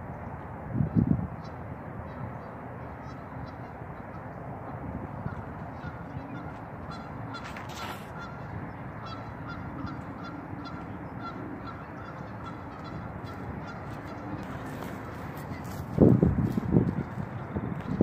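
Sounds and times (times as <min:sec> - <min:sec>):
steady outdoor hiss: 0:00.0 - 0:18.0
geese honking: 0:01.4 - 0:16.2.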